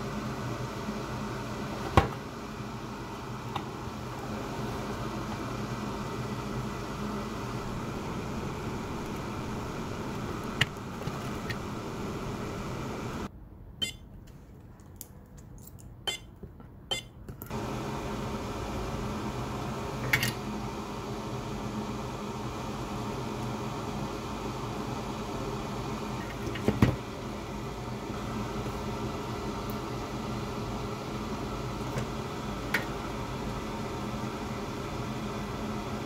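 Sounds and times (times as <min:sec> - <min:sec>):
electric fan humming: 0:00.0 - 0:13.3, 0:17.5 - 0:36.0.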